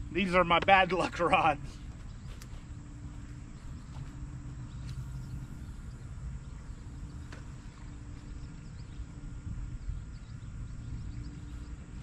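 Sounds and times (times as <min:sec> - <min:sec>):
insects buzzing faintly: 0:00.0 - 0:12.0.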